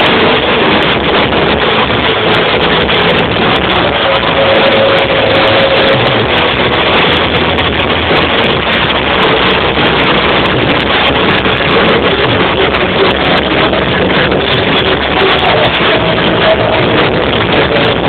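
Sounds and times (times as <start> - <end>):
distorted live rock band: 0.0 - 18.0.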